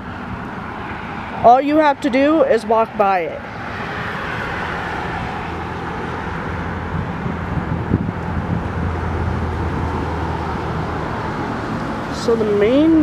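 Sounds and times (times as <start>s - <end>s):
cars rushing past: 0.0s - 13.0s.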